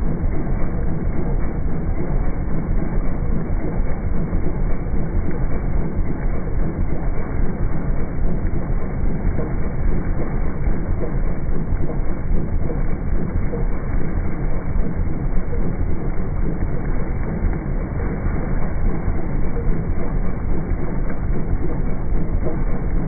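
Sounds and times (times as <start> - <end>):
slowed engine low rumble: 0.0 - 23.0.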